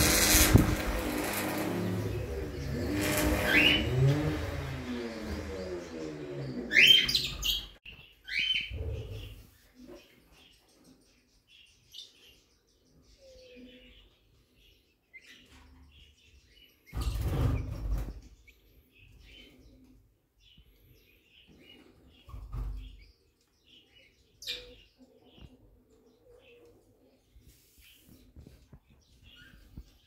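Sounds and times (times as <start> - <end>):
faint bird chirping: 3.4 - 30.0.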